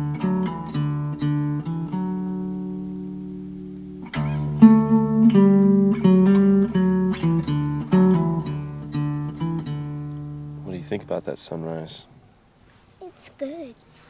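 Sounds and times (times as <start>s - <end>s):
picked acoustic guitar music: 0.0s - 13.9s.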